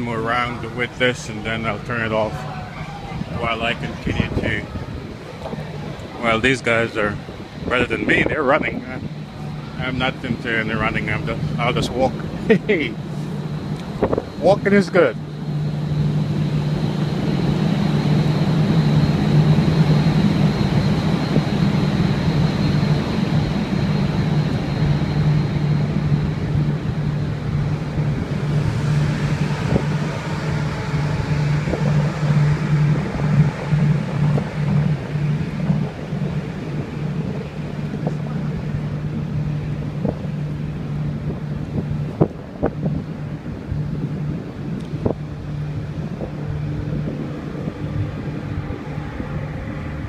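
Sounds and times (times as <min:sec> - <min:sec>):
deck machinery humming: 0:00.0 - 0:50.0
faint high whine: 0:00.0 - 0:50.0
wind noise on microphone: 0:00.0 - 0:50.0.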